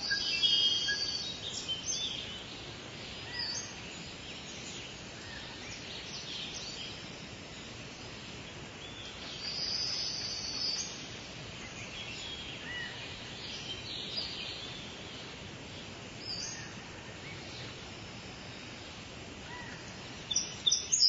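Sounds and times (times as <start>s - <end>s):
background hiss: 0.0s - 21.0s
birds calling and chirping: 0.0s - 21.0s.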